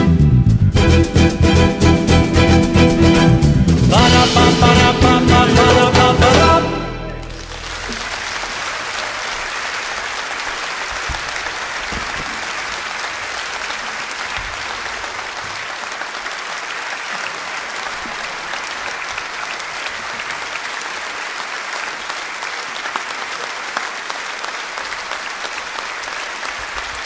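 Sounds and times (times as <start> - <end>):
audience applauding: 3.9 - 27.0.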